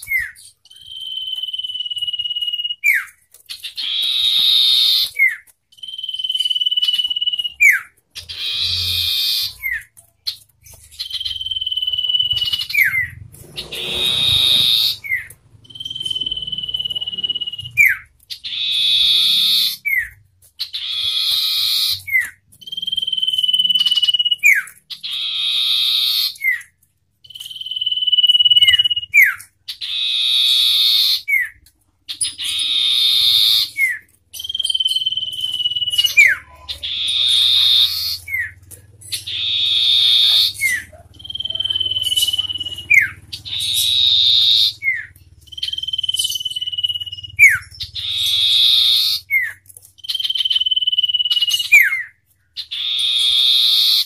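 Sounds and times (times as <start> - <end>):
bird scratchy chatters: 0.0 - 54.0
bird whistles: 0.0 - 54.0.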